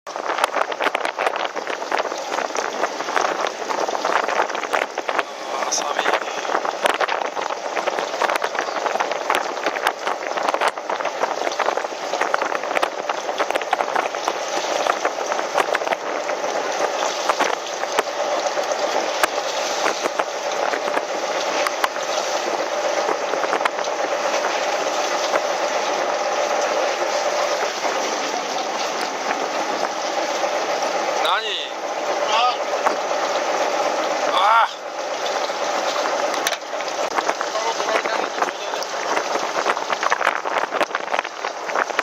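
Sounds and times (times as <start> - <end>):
water rushing and bubbling: 0.1 - 42.0.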